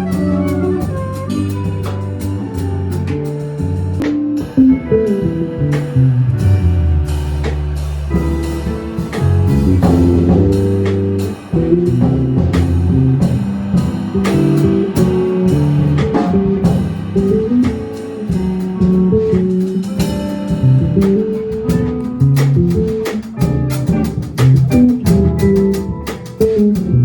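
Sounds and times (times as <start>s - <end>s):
drums and cymbal strokes: 0.0s - 27.0s
held bass notes: 0.0s - 27.0s
jazz guitar line: 0.0s - 27.0s.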